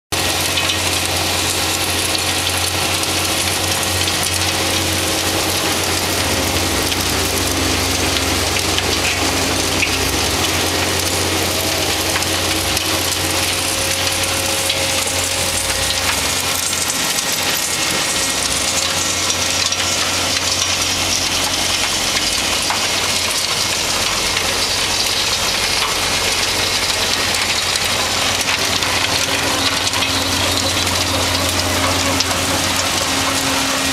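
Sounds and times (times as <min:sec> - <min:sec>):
compost pouring off conveyors: 0:00.1 - 0:33.9
diesel engine drone: 0:00.1 - 0:33.9.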